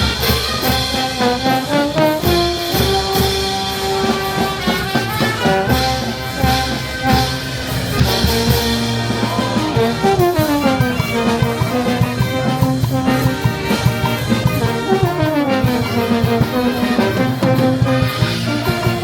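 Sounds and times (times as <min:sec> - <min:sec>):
brass band playing: 0:00.0 - 0:19.0
drum beats: 0:00.0 - 0:19.0.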